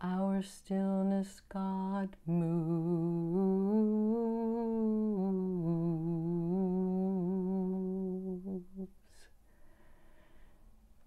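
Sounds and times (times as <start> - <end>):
woman singing a long note: 0.0 - 9.3.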